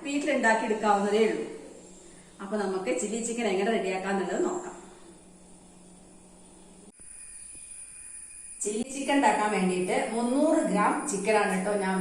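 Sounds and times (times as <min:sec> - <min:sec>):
thin high hum: 0:00.0 - 0:12.0.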